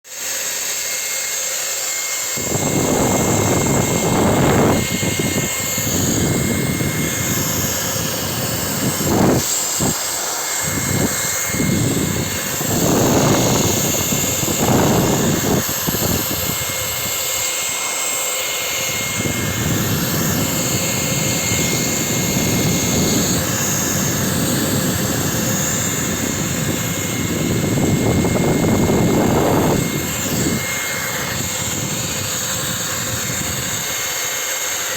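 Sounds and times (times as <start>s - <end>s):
air pump running: 0.1s - 34.9s
rushing air: 2.4s - 34.9s.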